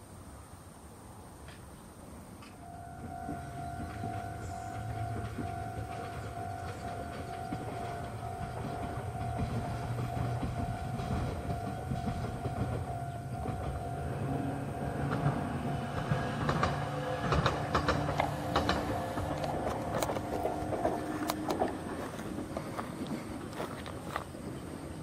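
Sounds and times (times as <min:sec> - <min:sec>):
electric train motors humming: 0:02.0 - 0:25.0.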